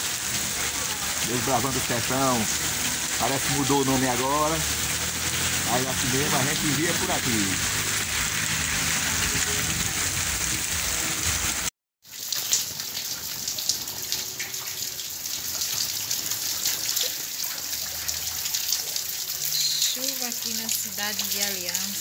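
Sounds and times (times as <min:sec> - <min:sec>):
heavy rain on pavement: 0:00.0 - 0:22.0
running water: 0:00.0 - 0:22.0.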